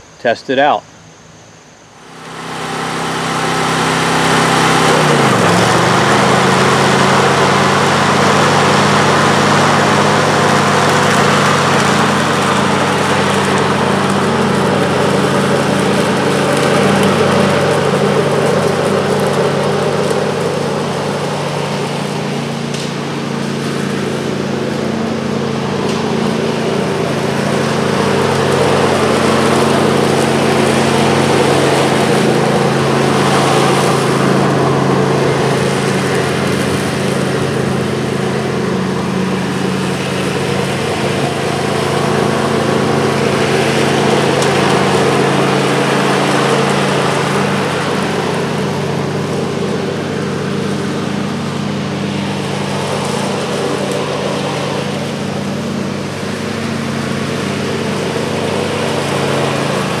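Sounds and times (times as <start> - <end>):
riding lawn tractor engine running: 0.0 - 60.0.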